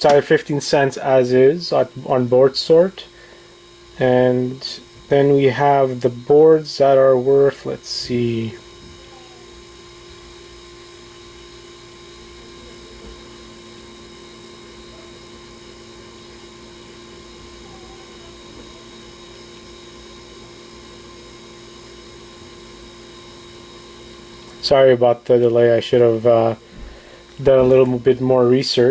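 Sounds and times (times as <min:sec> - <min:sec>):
electrical hum with hiss: 0:00.0 - 0:28.9.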